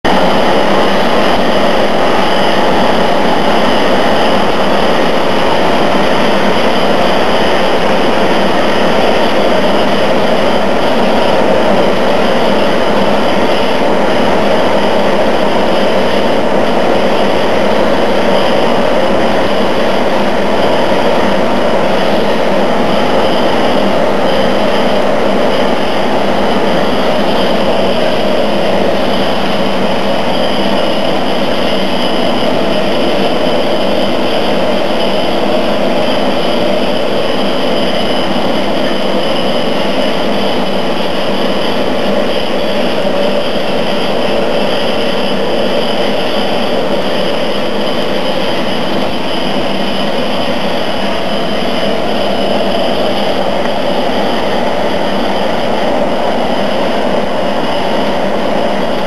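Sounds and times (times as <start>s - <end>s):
lathe machining noise: 0.0s - 59.0s
constant machine tones: 0.1s - 59.0s.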